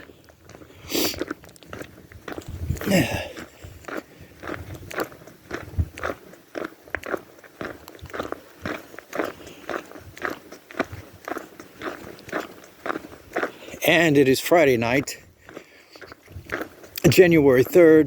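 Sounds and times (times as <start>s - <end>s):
footsteps on gravel: 0.0s - 18.0s.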